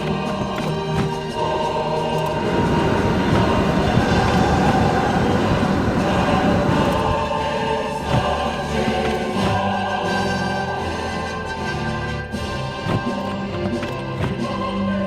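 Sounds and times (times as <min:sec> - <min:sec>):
music with choir singing: 0:00.0 - 0:15.0.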